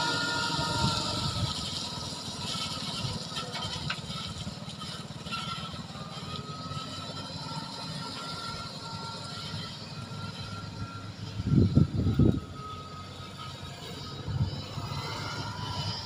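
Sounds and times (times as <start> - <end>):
truck engine low throb: 0.0 - 16.0.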